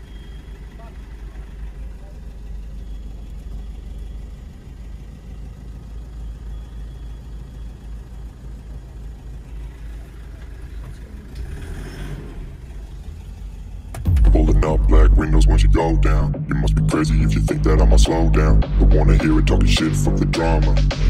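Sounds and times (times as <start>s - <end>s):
car engine rumble inside cabin: 0.0s - 21.0s.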